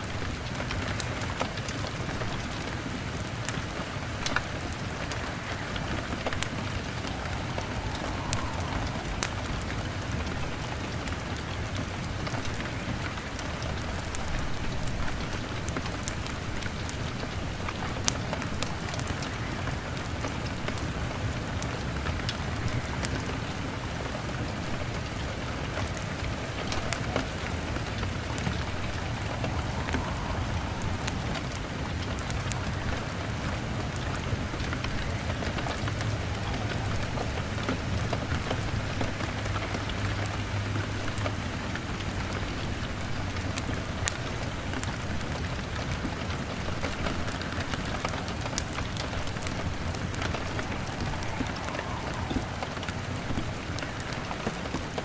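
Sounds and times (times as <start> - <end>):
log fire crackling: 0.0 - 55.0
rain on a window: 0.0 - 55.0.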